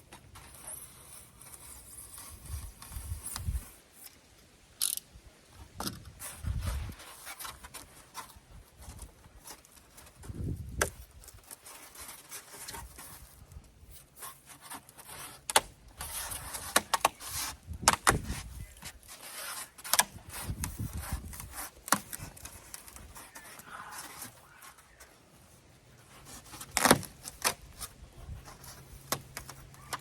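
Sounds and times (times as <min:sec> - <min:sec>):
rustling: 0:00.0 - 0:30.0.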